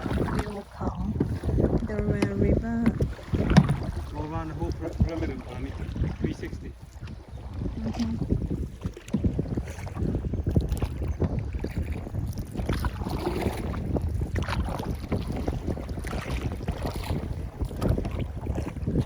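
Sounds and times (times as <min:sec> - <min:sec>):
water splashing and lapping: 0:00.0 - 0:19.0
wind buffeting microphone: 0:00.0 - 0:19.0.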